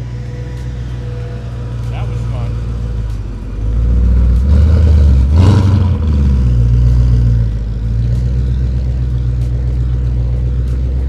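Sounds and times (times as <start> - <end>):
car exhaust pulling away: 0.0 - 11.0.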